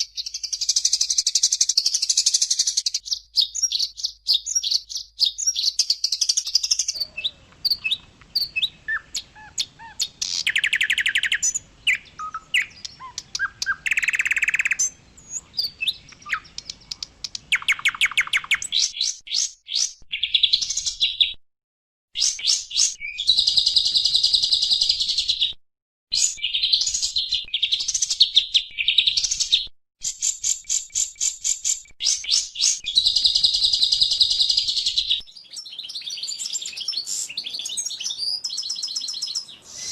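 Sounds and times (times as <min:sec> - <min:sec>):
bird singing chirps and trills: 0:00.0 - 0:21.4, 0:22.2 - 0:25.6, 0:26.2 - 0:39.9.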